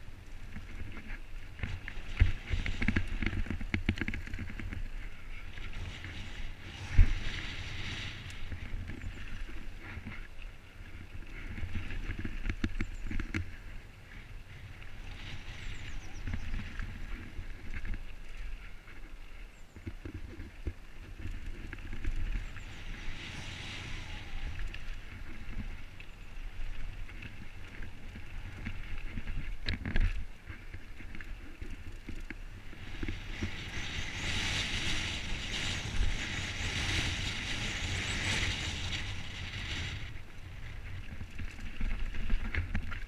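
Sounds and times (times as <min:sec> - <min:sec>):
wind buffeting microphone: 0:00.0 - 0:18.9, 0:19.7 - 0:43.0
bike tyres rolling over gravel: 0:00.0 - 0:43.0
bike rattling over bumps: 0:00.3 - 0:19.0, 0:19.6 - 0:43.0.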